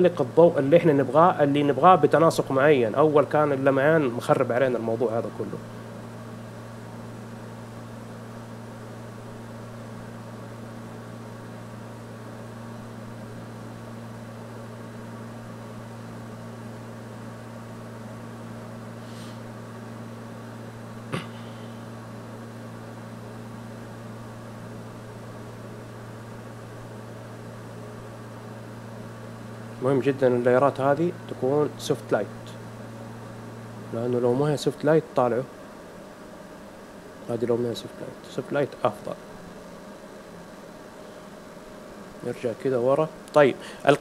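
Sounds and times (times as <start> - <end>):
electrical hum with faint hiss: 0.0 - 44.0.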